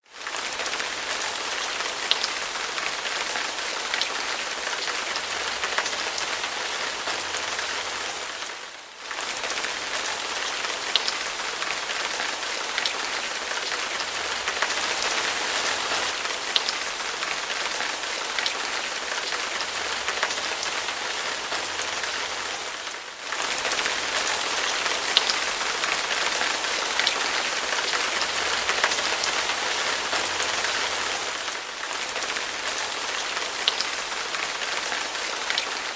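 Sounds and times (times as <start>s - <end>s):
steady rain hiss: 0.3s - 35.9s.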